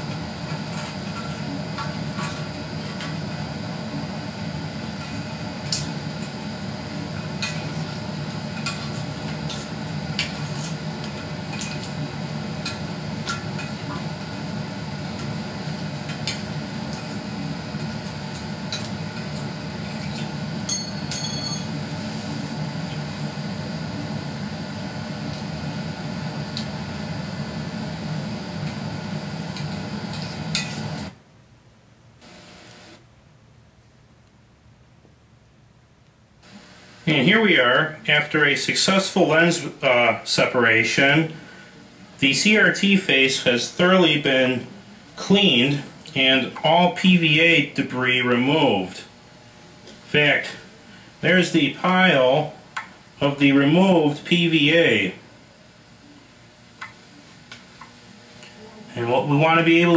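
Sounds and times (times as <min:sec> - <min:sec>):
steady low whir: 0:00.0 - 0:59.9.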